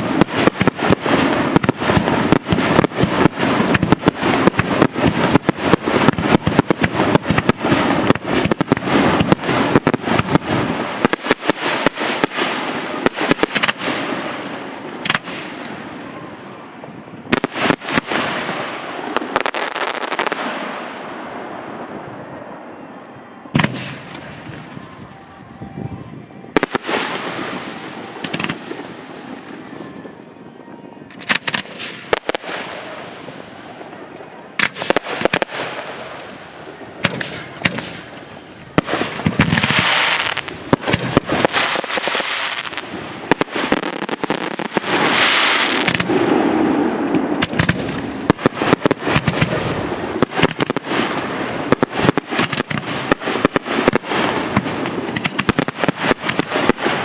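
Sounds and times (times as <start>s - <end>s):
fireworks bursting with bangs: 0.0s - 57.0s
fireworks crackling: 0.0s - 57.0s.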